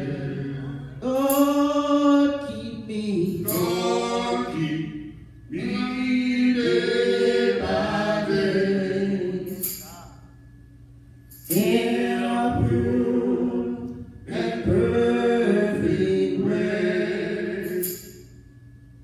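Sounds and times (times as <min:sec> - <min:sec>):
men singing gospel: 0:00.0 - 0:09.8, 0:11.4 - 0:18.0.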